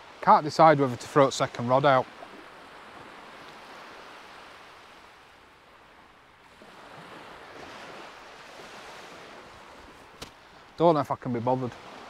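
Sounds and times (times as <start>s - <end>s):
sea surf washing on shore: 0.0s - 12.0s.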